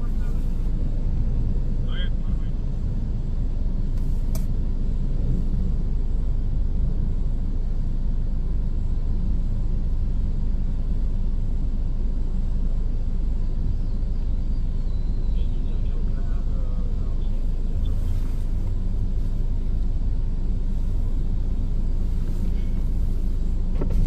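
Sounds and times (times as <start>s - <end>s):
idling vehicle rumble: 0.0s - 24.0s.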